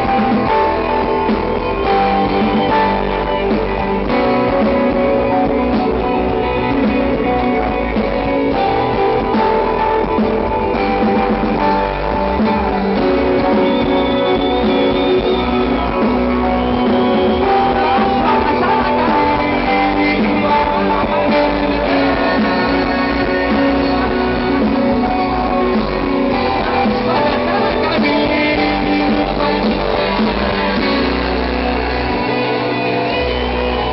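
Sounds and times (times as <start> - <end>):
instrumental rock band: 0.0 - 33.9.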